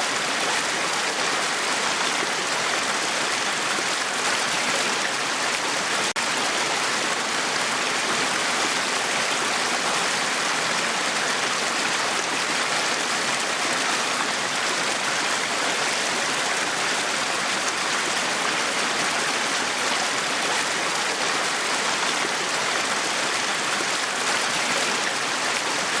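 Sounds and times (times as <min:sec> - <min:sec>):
brook babbling over stones: 0:00.0 - 0:26.0.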